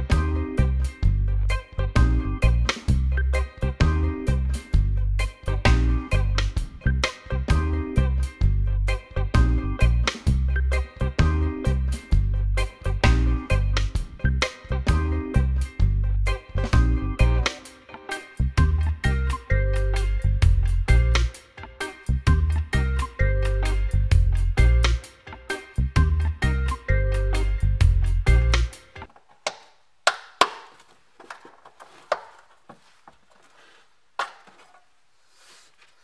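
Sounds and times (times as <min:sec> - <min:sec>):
music with drum beat and bass: 0:00.0 - 0:29.1.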